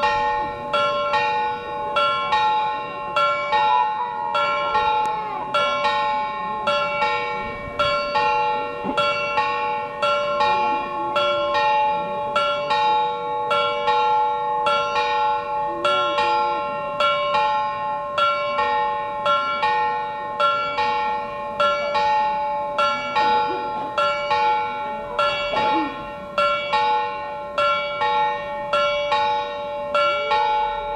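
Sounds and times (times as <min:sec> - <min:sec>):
clock bells chiming: 0:00.0 - 0:30.9.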